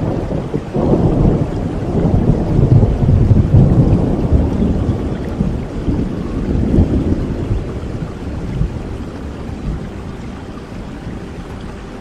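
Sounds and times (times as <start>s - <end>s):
rolling thunder: 0.0s - 10.0s
steady rain: 0.0s - 12.0s.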